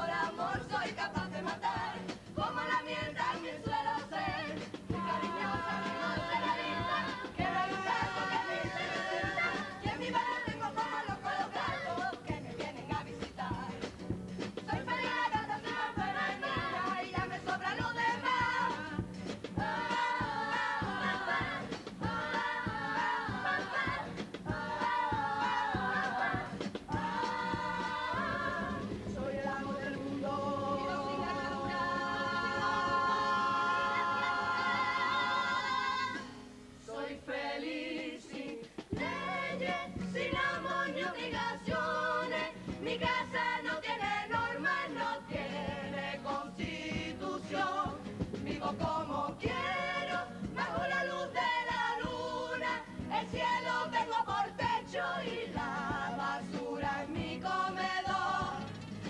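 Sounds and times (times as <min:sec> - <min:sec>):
choir singing: 0:00.0 - 0:13.9, 0:14.7 - 0:58.8
drum: 0:00.0 - 0:36.3, 0:38.0 - 0:59.0
guitars: 0:00.0 - 0:37.1, 0:38.2 - 0:59.0.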